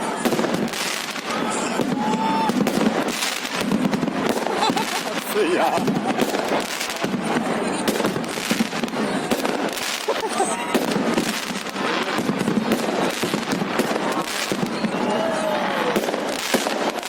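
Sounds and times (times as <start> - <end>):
fireworks and firecrackers bangs: 0.0 - 17.0.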